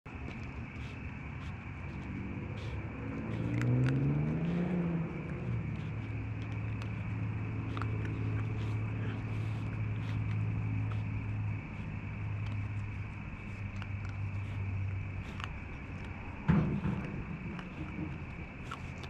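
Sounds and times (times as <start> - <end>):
vehicle engine running: 0.3 - 19.0.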